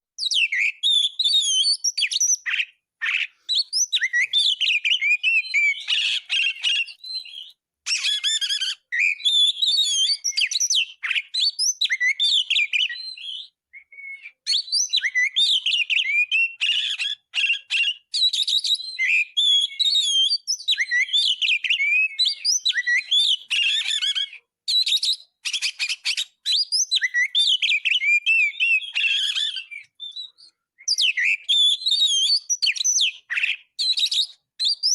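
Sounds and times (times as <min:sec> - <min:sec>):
songbird singing whistles and trills: 0:00.2 - 0:34.9.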